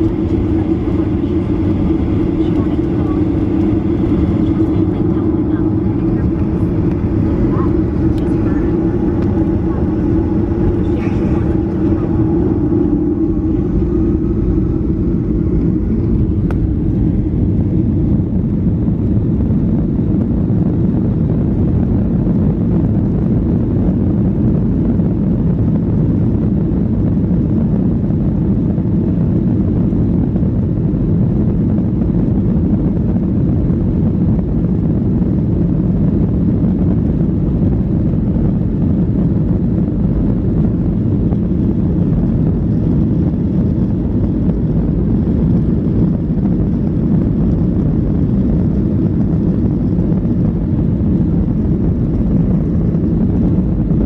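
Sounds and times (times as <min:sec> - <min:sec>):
airplane cabin engine rumble: 0:00.0 - 0:54.0
low hum: 0:00.0 - 0:54.0.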